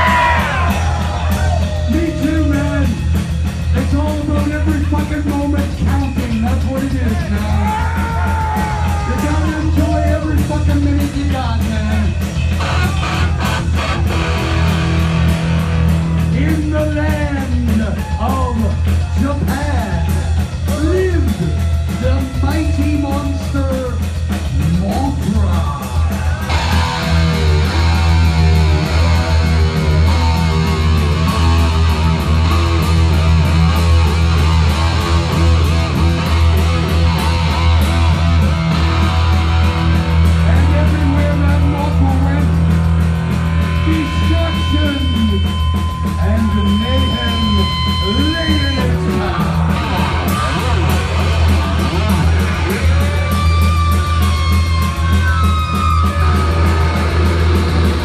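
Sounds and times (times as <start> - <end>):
bass guitar: 0.0 - 58.0
distorted electric guitar: 0.0 - 58.0
drums: 0.0 - 58.0.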